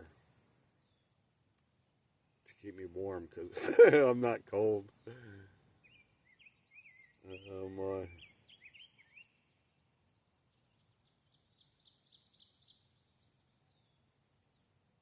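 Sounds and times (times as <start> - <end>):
faint bird chirps: 0.0 - 3.6, 4.6 - 15.0.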